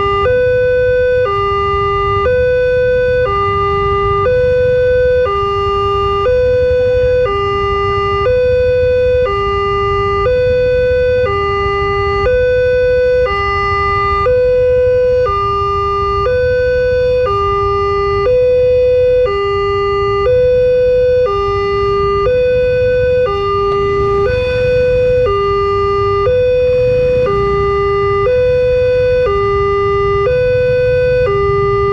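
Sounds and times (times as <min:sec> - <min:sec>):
level crossing two-tone alarm: 0:00.0 - 0:31.9.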